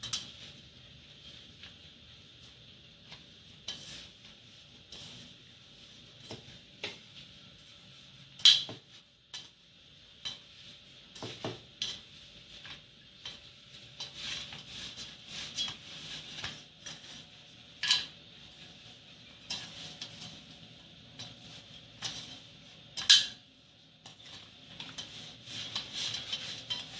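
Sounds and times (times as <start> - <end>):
dough scraping in metal bowl: 0.0 - 8.8, 10.2 - 23.4, 24.0 - 26.9.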